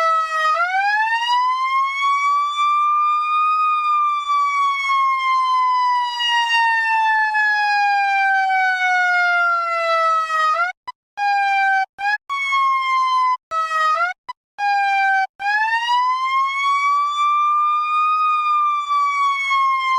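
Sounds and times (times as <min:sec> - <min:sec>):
electronic siren wailing: 0:00.0 - 0:19.9.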